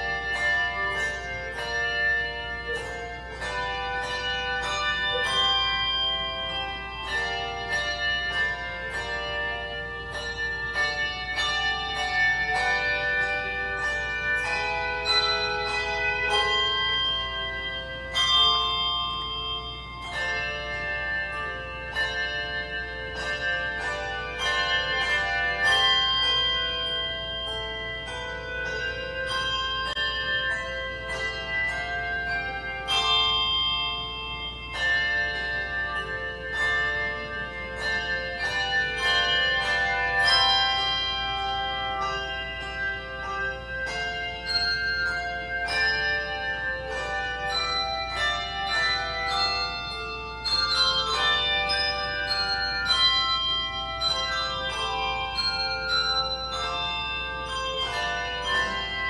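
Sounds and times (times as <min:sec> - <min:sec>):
handbell choir ringing chords: 0:00.0 - 0:59.0.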